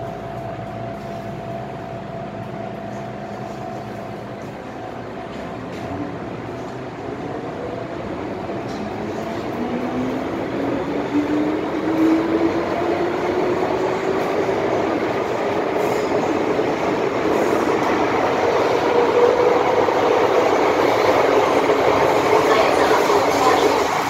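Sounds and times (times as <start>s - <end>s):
train wheels on rail: 0.0s - 24.0s.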